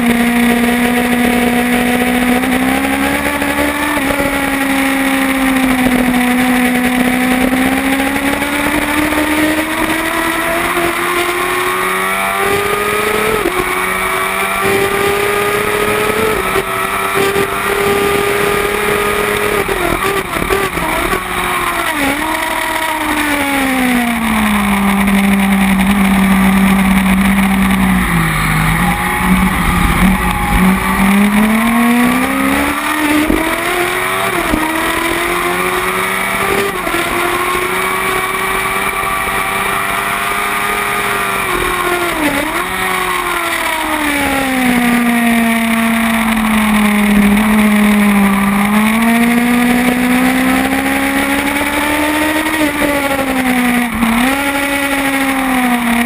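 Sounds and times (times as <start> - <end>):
race motorcycle engine shifting gears: 0.0 - 56.0.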